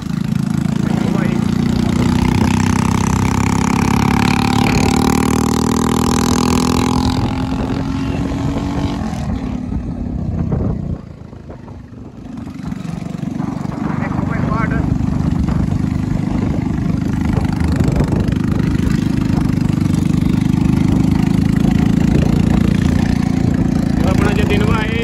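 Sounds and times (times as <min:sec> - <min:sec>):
motorcycle engine running: 0:00.0 - 0:25.0
wind rushing: 0:00.3 - 0:25.0.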